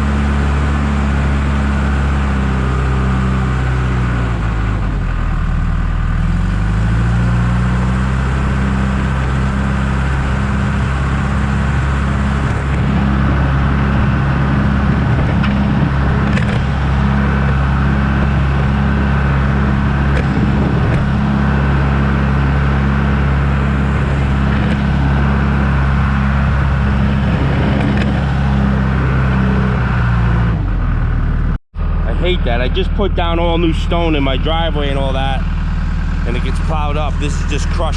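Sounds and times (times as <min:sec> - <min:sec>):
backhoe diesel engine running: 0:00.0 - 0:37.9.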